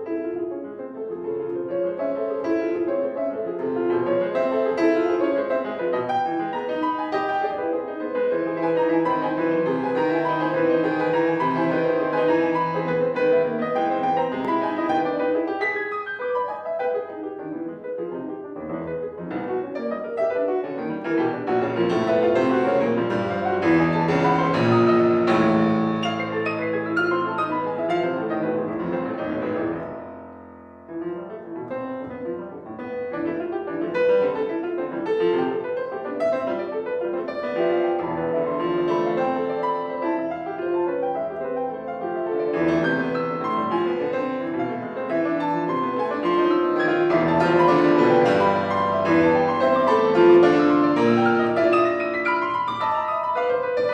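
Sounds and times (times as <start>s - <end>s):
solo piano playing: 0.0s - 53.9s.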